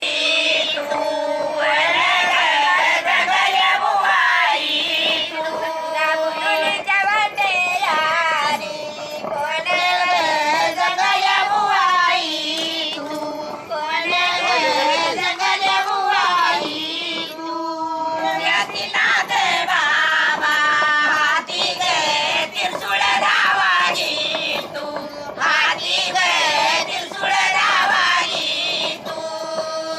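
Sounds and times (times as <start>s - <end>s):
elderly woman singing: 0.0s - 29.9s.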